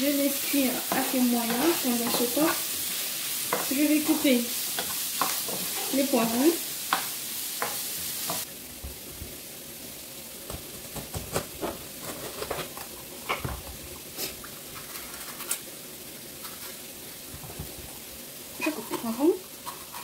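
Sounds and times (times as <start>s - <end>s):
onions sizzling in a frying pan: 0.0s - 20.0s.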